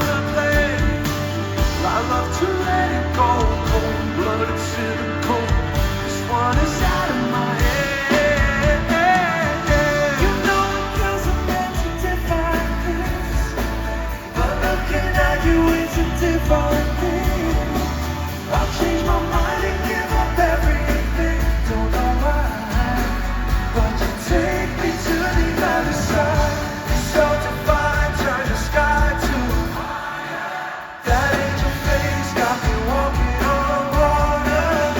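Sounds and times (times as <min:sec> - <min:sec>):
live pop band music: 0:00.0 - 0:34.9
person singing: 0:00.0 - 0:34.9.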